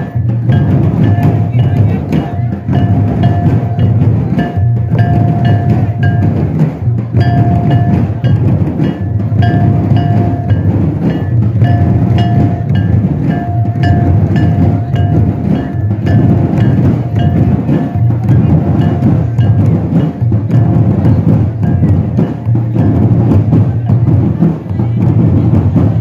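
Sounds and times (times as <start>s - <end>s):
percussion-led dance music: 0.0s - 26.0s.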